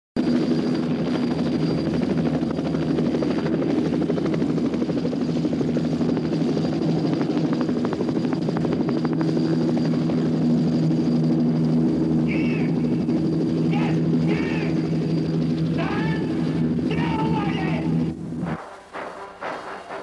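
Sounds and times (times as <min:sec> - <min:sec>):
helicopter rotors and turbines: 0:00.2 - 0:20.0
high turbine whine: 0:00.2 - 0:20.0.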